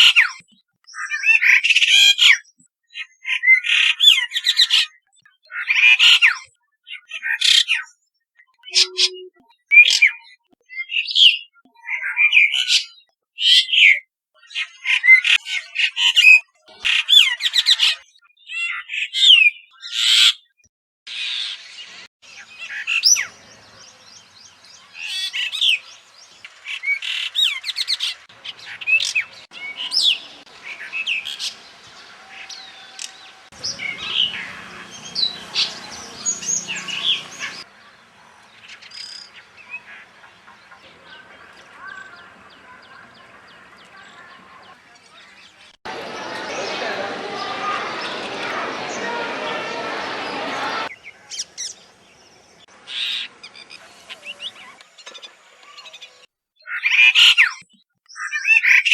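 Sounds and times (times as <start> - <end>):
starling calling and singing: 0.0 - 46.8, 50.7 - 58.9.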